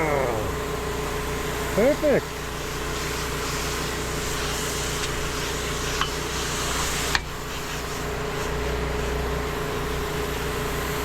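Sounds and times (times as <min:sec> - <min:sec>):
engine-driven pump running: 0:00.0 - 0:11.0
hiss of water spray: 0:01.8 - 0:11.0.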